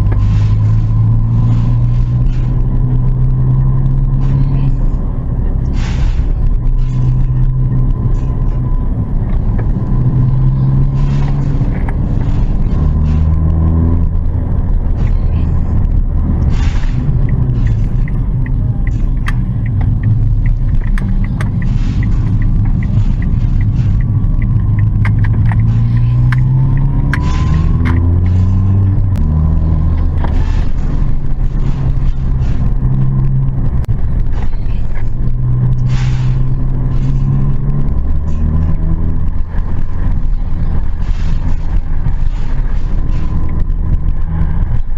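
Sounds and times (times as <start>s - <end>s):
car engine shifting gears: 0.0s - 44.9s.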